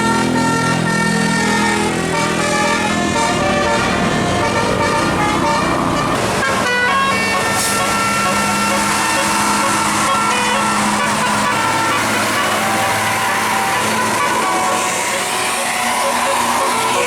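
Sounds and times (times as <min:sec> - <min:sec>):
multi-tone air horn melody: 0:00.0 - 0:17.0.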